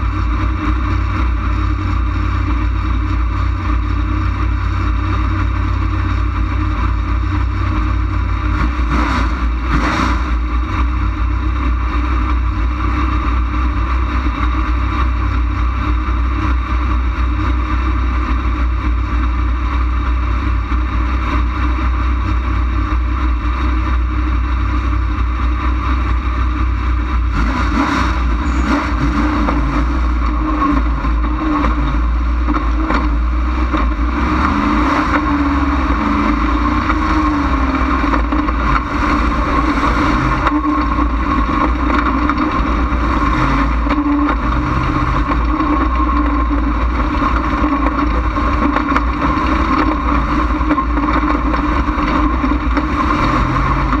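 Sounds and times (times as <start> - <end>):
race car engine running loud: 0.0 - 54.0.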